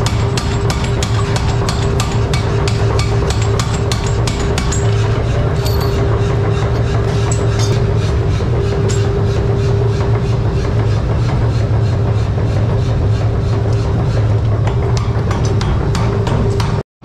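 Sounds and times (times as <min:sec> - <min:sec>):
machinery humming: 0:00.0 - 0:16.8.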